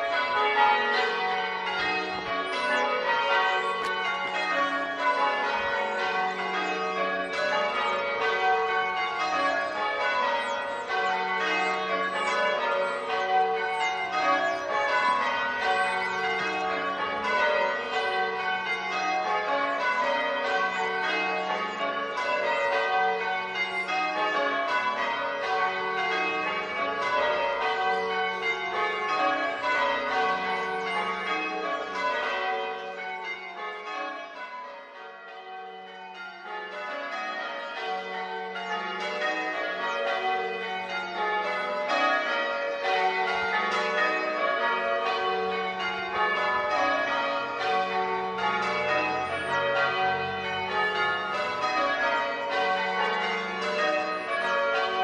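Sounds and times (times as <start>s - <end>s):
church bells ringing changes: 0.0s - 55.0s.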